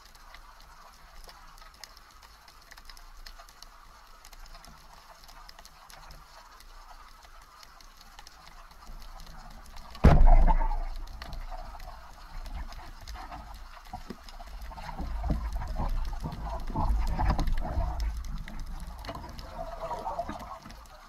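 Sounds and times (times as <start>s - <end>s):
faint underwater ticks: 0.0s - 21.0s.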